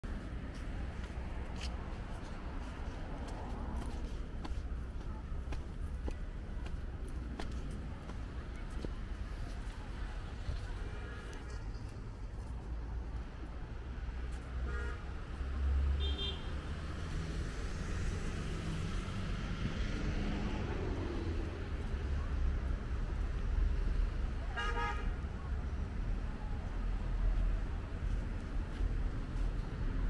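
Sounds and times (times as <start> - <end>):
distant road traffic rumble: 0.0 - 30.0.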